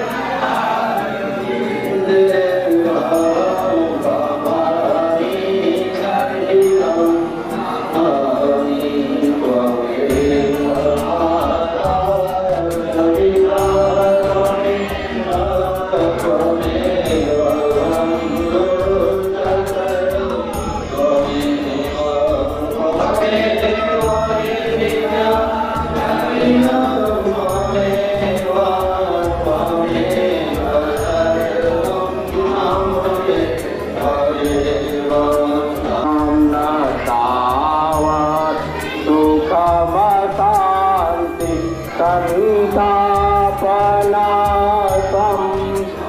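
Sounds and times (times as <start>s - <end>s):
chant-like singing: 0.0s - 46.0s.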